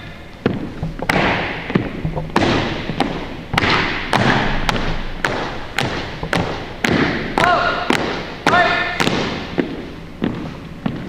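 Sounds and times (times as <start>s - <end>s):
marching footsteps on wooden floor: 0.4s - 11.0s.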